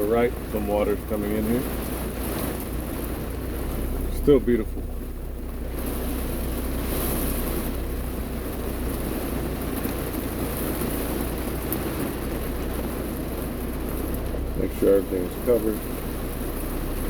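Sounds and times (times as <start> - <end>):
heavy rain on car: 0.0 - 17.0.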